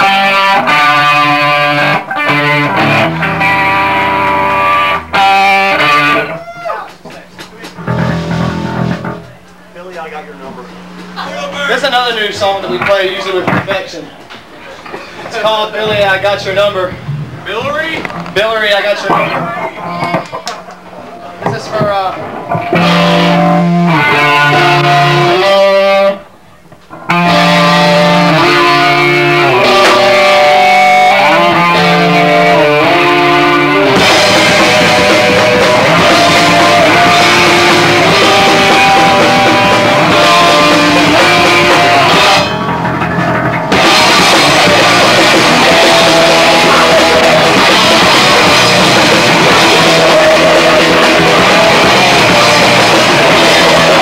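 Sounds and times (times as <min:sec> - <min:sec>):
electric guitar riff: 0:00.0 - 0:06.9, 0:07.7 - 0:09.4, 0:15.1 - 0:20.9, 0:21.8 - 0:54.0
punk band playing loud: 0:00.0 - 0:09.5, 0:15.0 - 0:26.3, 0:26.9 - 0:54.0
drum kit: 0:00.0 - 0:11.3, 0:14.9 - 0:20.8, 0:21.4 - 0:26.2, 0:26.9 - 0:54.0.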